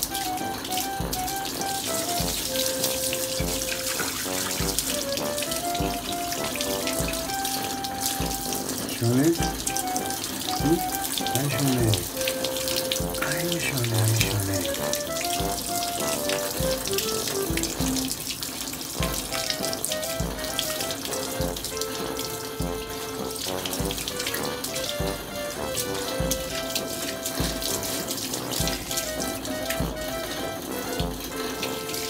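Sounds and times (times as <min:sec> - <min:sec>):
background music with beat: 0:00.0 - 0:18.4, 0:19.0 - 0:32.0
hose water splashing on dog: 0:00.0 - 0:32.0.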